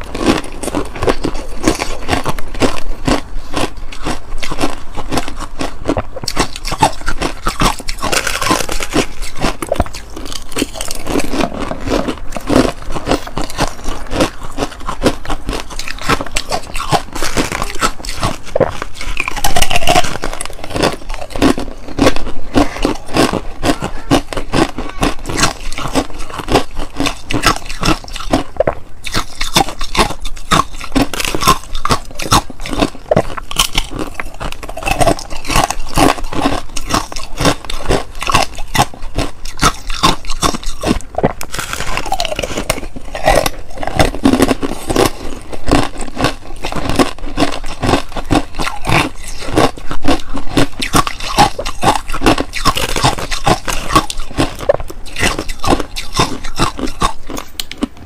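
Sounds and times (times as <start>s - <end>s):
chewing ice crunches: 0.0s - 58.0s.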